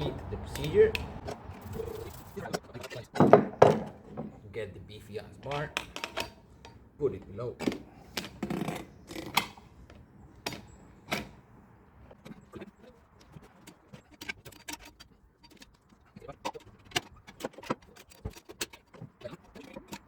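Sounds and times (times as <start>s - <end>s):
tire levers knocking on rim: 0.0s - 20.0s.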